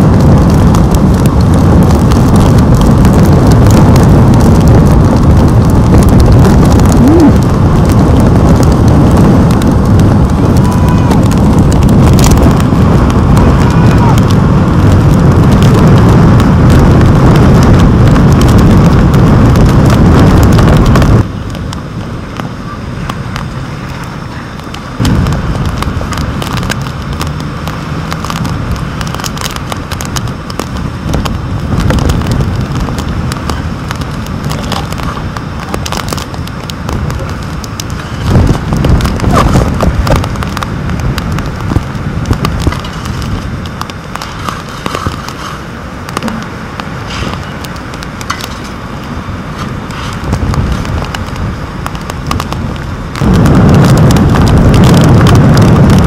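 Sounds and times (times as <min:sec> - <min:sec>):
rain hitting camera housing: 0:00.0 - 0:56.0
wind gusting against microphone: 0:00.0 - 0:56.0.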